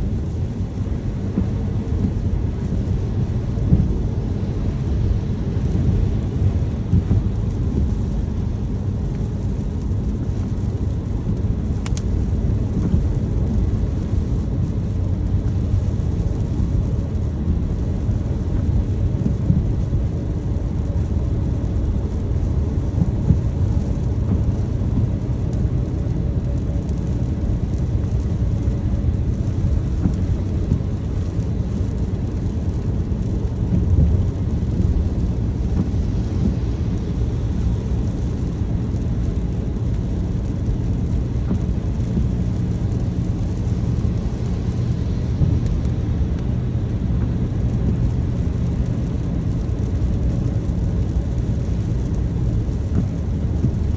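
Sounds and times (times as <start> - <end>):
rain hissing: 0.0 - 53.9
road and engine rumble: 0.0 - 53.9.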